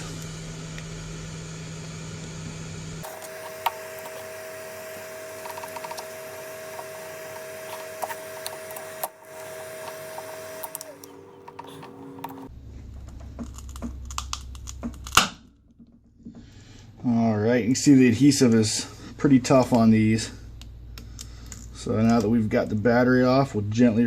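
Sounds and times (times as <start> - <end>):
steady electrical hum: 0.0 - 24.0.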